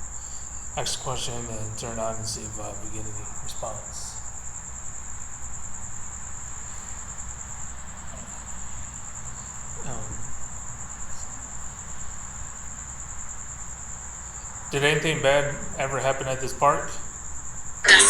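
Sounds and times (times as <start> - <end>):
crickets trilling: 0.0 - 18.0
faint background hiss: 0.0 - 18.0.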